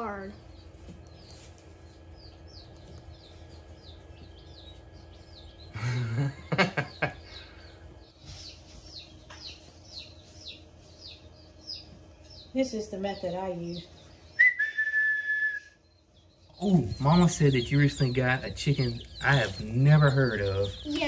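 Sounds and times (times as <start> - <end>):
chicks peeping: 0.0 - 14.8, 15.6 - 21.0.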